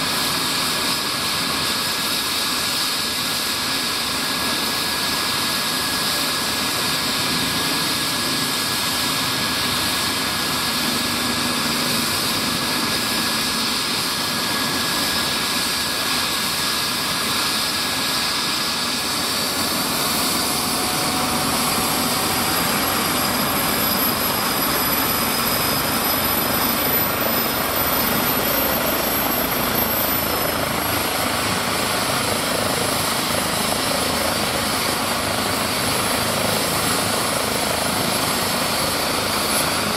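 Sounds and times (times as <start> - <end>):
helicopter rotor noise: 0.0 - 39.9
helicopter turbine whine: 0.0 - 39.9.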